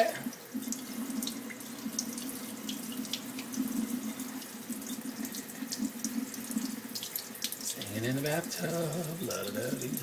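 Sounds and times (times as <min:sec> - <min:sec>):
water running from a tap: 0:00.0 - 0:10.0
water splashes and drips: 0:00.2 - 0:10.0.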